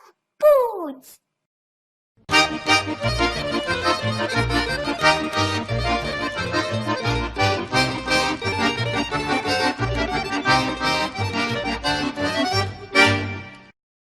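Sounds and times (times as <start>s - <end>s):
bouncy accordion tune: 2.3s - 13.8s.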